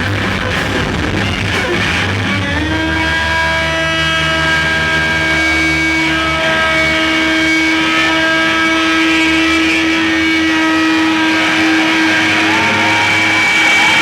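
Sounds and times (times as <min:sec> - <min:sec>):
distorted electric guitars: 0:00.0 - 0:14.0
low drone: 0:00.0 - 0:14.0.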